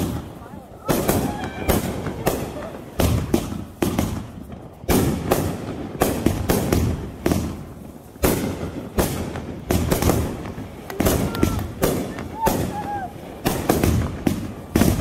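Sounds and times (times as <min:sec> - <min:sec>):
fireworks bangs with echo: 0:00.0 - 0:15.0.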